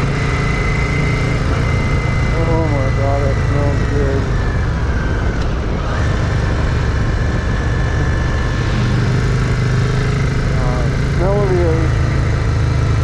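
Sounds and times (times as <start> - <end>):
rushing wind noise: 0.0 - 11.2
motorcycle engine running: 0.0 - 13.0.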